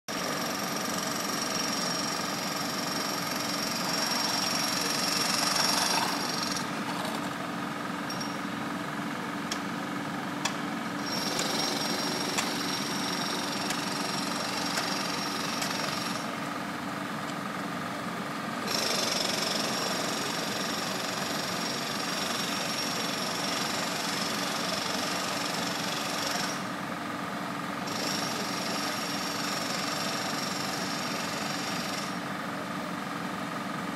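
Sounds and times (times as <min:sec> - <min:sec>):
engine running: 0:00.1 - 0:28.7
harsh machine noise: 0:00.1 - 0:32.8.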